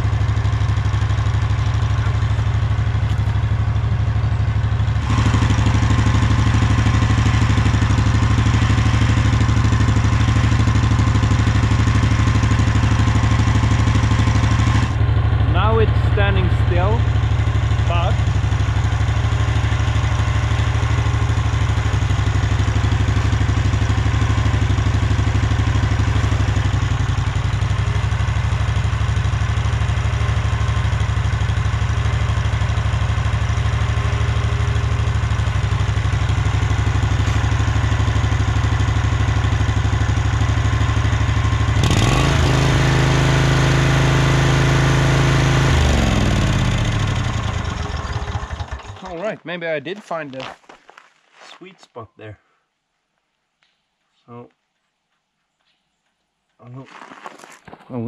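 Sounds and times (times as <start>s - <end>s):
riding mower engine: 0.0s - 50.1s.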